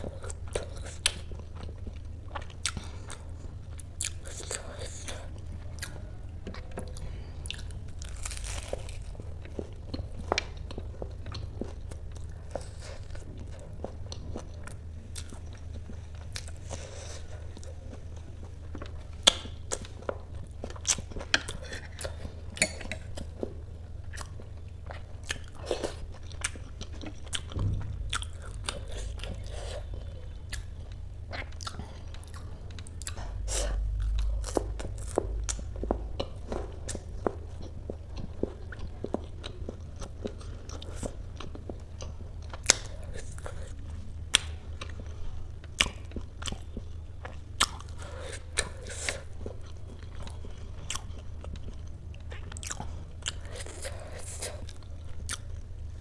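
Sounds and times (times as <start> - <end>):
crunching and chewing fried food: 0.0 - 56.0
steady low hum: 0.0 - 56.0.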